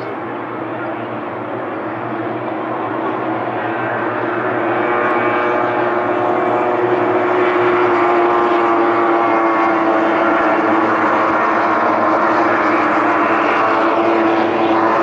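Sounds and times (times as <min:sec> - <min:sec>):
outboard engine at high revs: 0:00.0 - 0:15.0.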